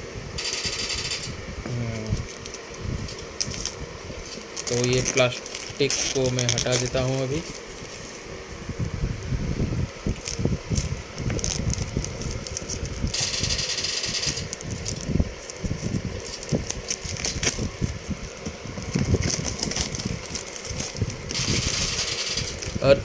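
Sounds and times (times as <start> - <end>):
plastic wrapping crinkling: 2.1 - 8.3, 10.0 - 23.0.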